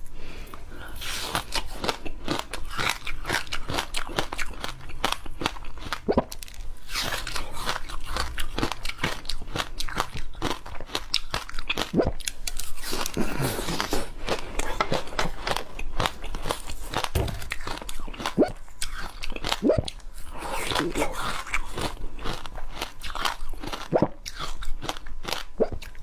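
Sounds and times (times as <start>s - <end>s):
ice crunching being chewed: 1.0s - 26.0s.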